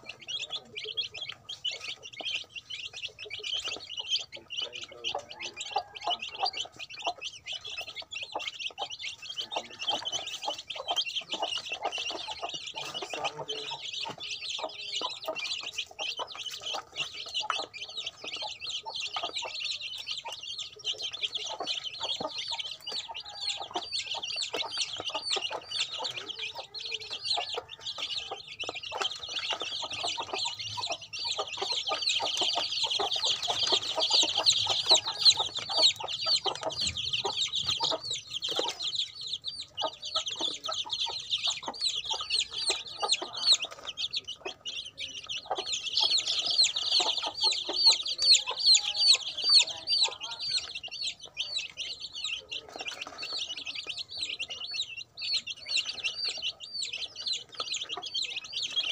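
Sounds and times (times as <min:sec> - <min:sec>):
chicks peeping: 0:00.0 - 0:58.9.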